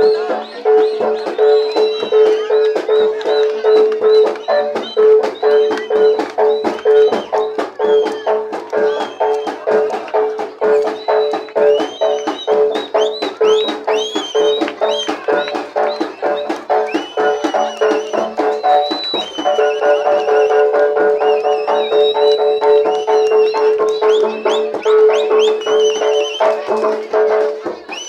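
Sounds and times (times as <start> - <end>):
drums and percussion: 0.0 - 28.0.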